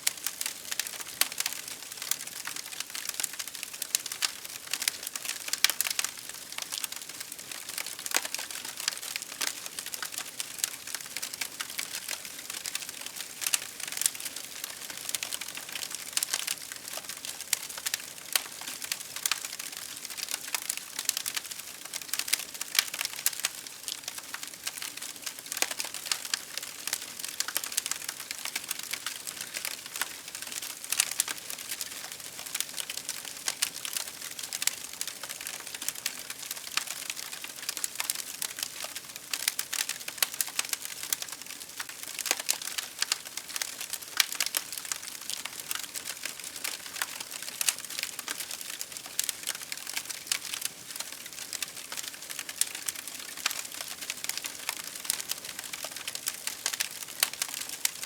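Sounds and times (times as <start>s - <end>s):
fire crackling in fireplace: 0.0s - 58.0s.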